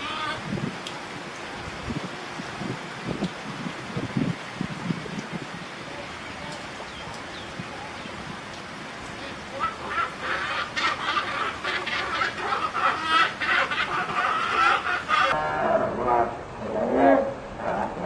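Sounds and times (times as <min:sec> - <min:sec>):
rain hiss: 0:00.0 - 0:15.4.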